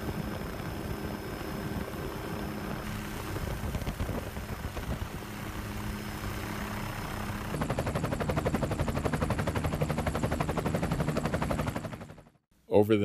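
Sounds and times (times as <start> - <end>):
helicopter rotor blade chop: 0.0 - 12.4.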